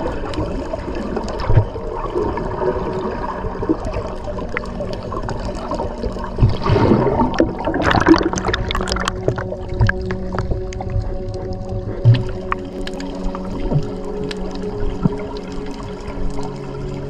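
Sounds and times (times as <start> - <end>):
water sloshing and gurgling: 0.0 - 17.0
low hum: 1.0 - 17.0.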